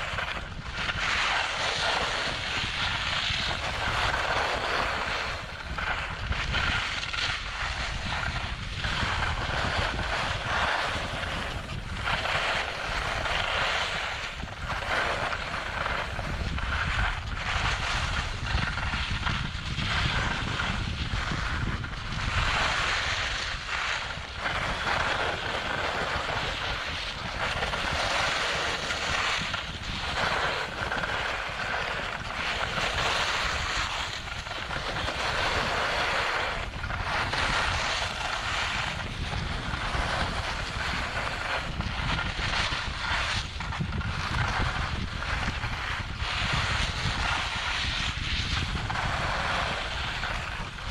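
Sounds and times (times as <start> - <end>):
skis scraping over packed snow: 0.0 - 50.9
wind rumbling on microphone: 0.0 - 50.9.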